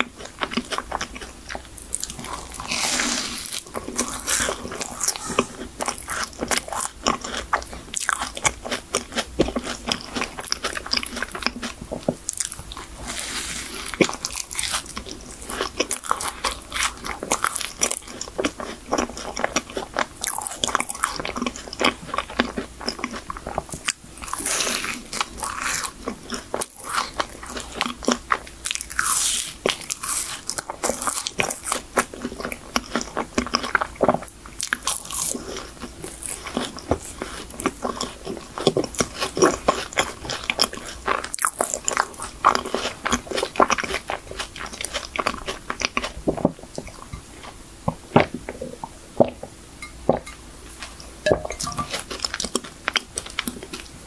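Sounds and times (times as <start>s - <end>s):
crisp pastry crunching: 0.0s - 47.5s
chewing mouth sounds: 0.0s - 49.4s, 50.1s - 54.0s.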